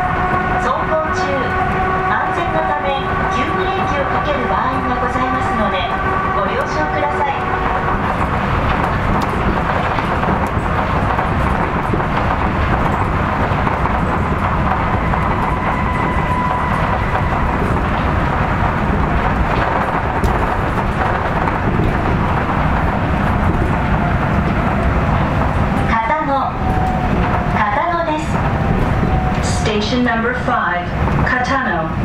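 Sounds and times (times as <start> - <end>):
monorail tyres rumbling: 0.0 - 32.0.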